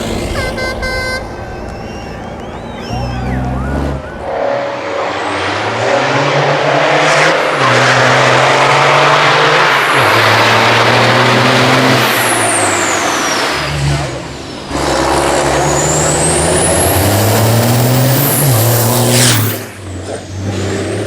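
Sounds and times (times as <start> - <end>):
truck engine under full load: 0.0 - 21.0.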